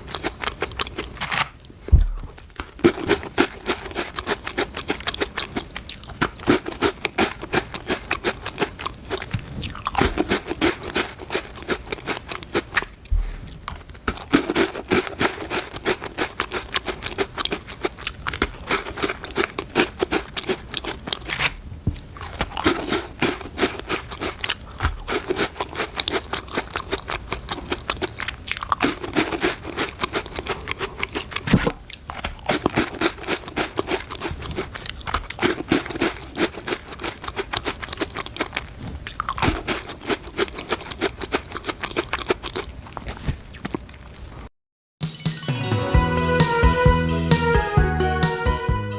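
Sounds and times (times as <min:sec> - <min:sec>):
crunching and chewing cookies: 0:00.0 - 0:44.5.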